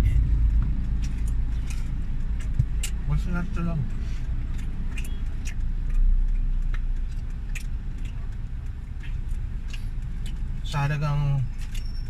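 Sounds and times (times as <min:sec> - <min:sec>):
car cabin rumble: 0:00.0 - 0:12.0
chewing: 0:00.0 - 0:12.0.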